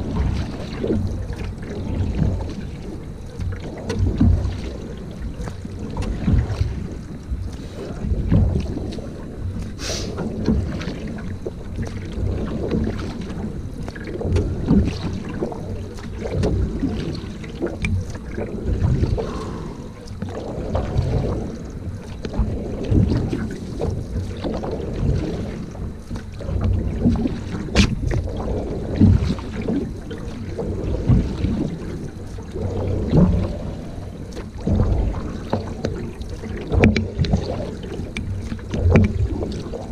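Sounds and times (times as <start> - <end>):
paddle water splashing: 0.0 - 39.9
wind buffeting microphone: 0.0 - 39.9.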